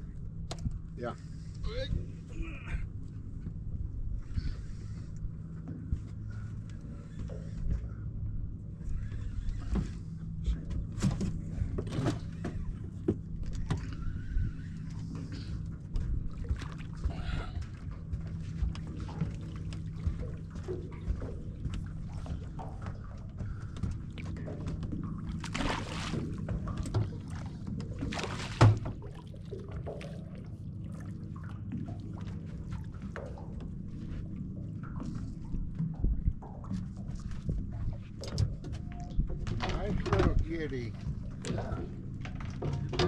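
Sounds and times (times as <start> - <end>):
steady low hum: 0.0 - 43.0
water lapping against boat: 0.0 - 43.0.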